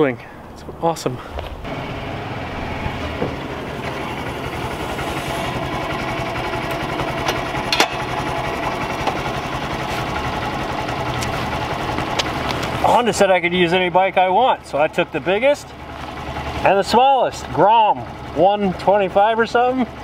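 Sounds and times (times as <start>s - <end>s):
motorcycle engine running: 0.1s - 20.0s.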